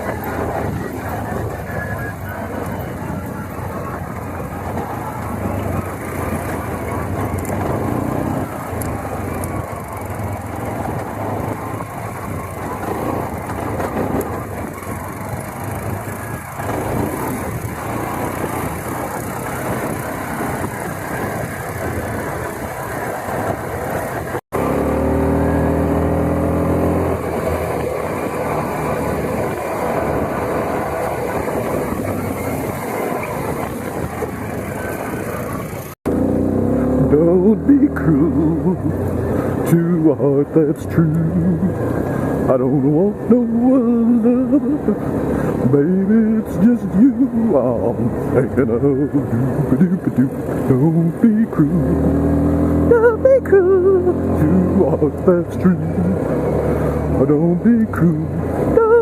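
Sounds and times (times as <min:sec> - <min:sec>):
atv engines running: 0:00.0 - 0:59.0.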